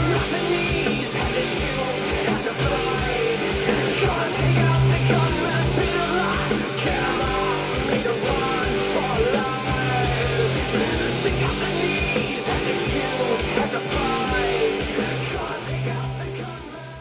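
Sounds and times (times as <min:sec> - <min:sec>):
rock song through speaker: 0:00.0 - 0:17.0.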